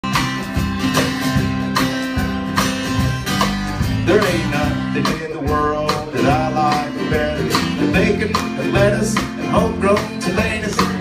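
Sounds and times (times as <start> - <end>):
acoustic guitar strumming: 0.0 - 11.0
upright bass notes: 0.0 - 11.0.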